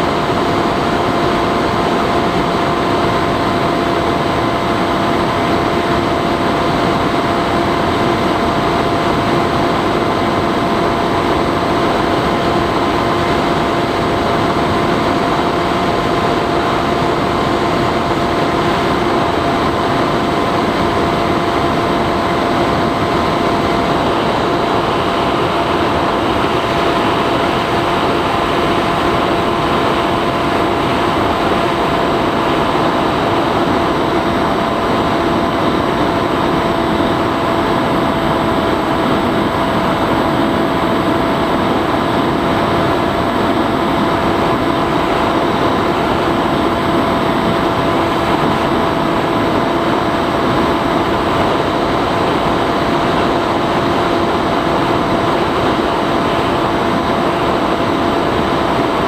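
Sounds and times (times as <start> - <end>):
electric motor and propeller whining: 0.0 - 59.0.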